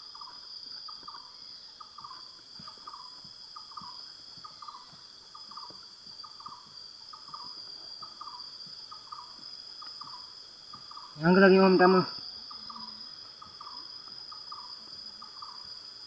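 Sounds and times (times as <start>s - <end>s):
pulsed insect chirping: 0.0s - 16.0s
insects shrilling: 2.9s - 16.0s.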